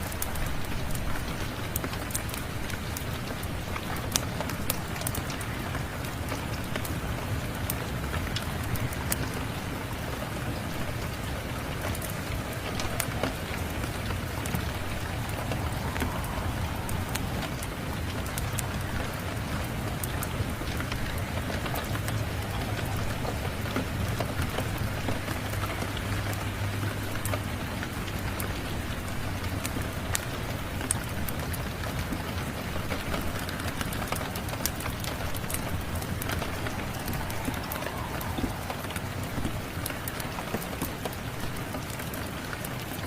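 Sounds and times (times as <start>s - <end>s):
steady rain falling: 0.0s - 43.0s
wood fire crackling: 0.0s - 43.0s.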